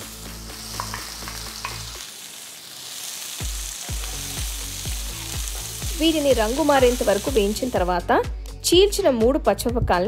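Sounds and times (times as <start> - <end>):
onions sizzling in oil: 0.0 - 8.1.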